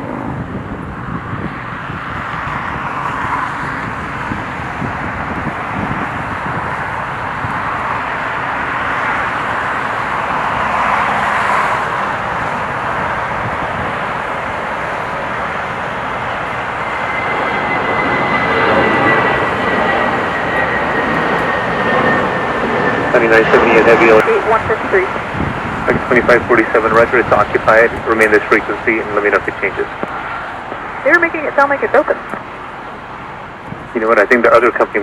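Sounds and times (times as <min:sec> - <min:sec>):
high engine whine: 0:00.0 - 0:35.0
jet airliner engine roar: 0:00.0 - 0:35.0.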